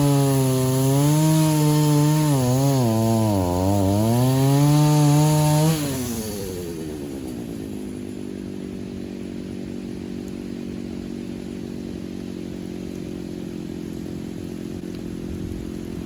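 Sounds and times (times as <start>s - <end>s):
chainsaw idling: 0.0s - 16.0s.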